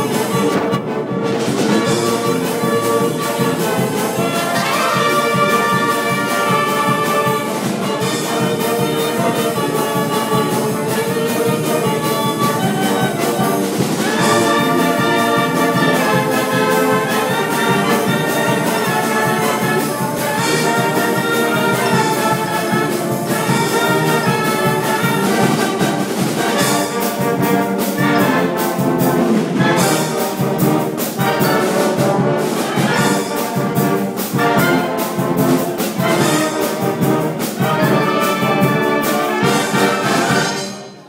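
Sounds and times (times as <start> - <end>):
brass and reed band playing: 0.0 - 41.0.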